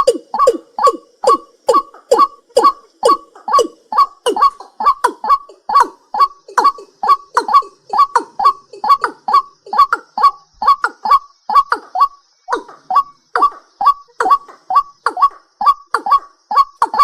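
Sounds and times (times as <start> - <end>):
night bird honking calls: 0.0 - 17.0.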